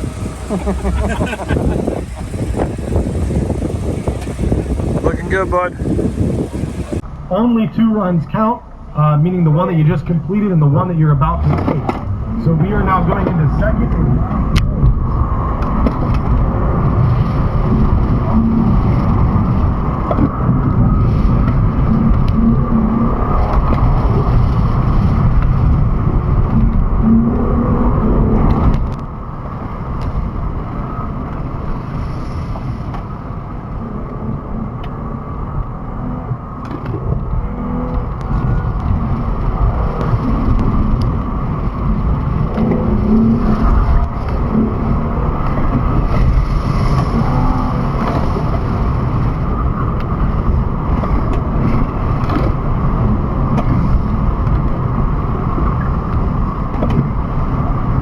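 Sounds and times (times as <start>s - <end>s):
car engine running hard: 0.0s - 58.0s
rushing noise: 0.0s - 58.0s.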